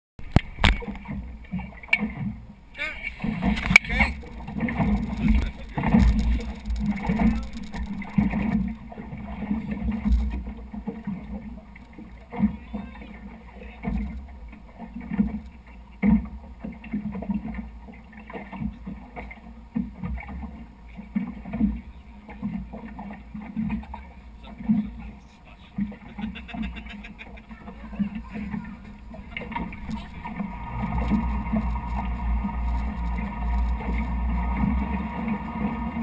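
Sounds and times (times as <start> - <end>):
boat engine rumble: 0.2 - 36.0
hull thumping on waves: 0.2 - 36.0.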